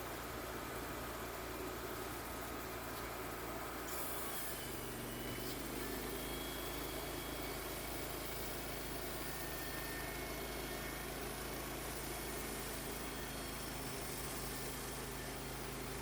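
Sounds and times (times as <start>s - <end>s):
bandsaw mill engine running: 0.0s - 16.0s.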